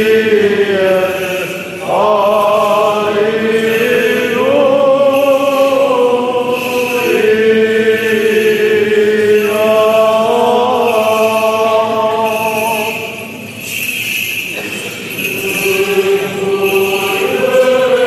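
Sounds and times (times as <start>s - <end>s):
low vocal drone: 0.0s - 13.5s, 14.6s - 18.0s
voices chanting slow melody: 0.0s - 18.0s.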